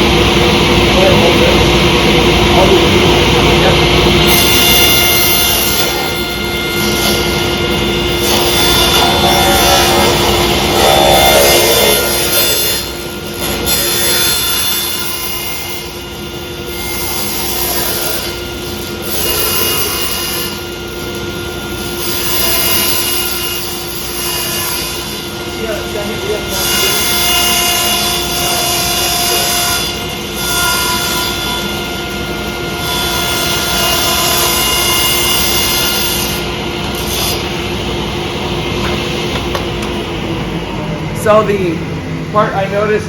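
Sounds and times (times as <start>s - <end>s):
table saw cutting plastic: 0.0s - 40.1s.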